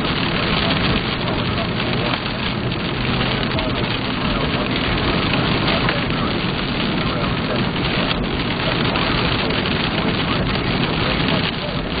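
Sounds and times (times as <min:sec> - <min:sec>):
rain pelting car windshield: 0:00.0 - 0:12.0
road noise: 0:00.0 - 0:12.0.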